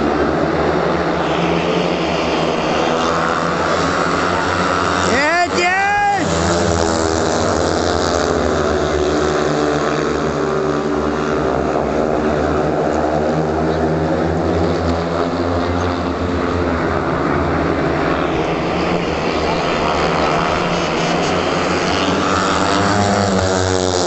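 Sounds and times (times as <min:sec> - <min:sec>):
motorcycle engines droning: 0:00.0 - 0:24.0.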